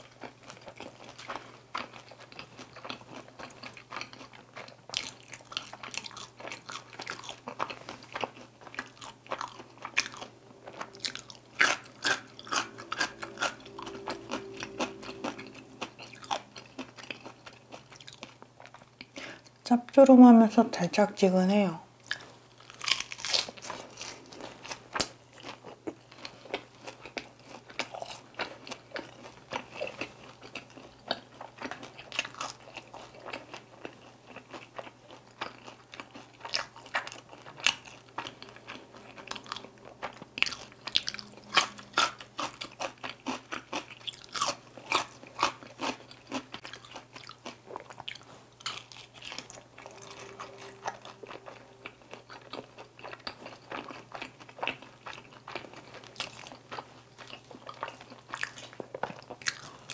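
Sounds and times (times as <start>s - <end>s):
crunching and chewing fried chicken: 0.0s - 19.6s, 22.0s - 59.9s.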